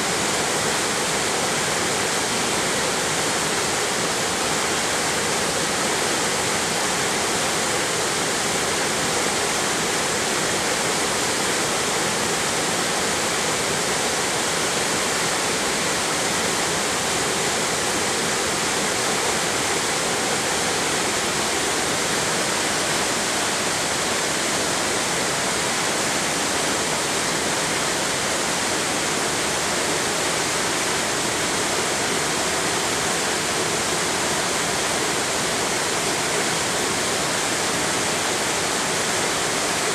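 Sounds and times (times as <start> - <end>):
waterfall roaring over rock: 0.0 - 39.9.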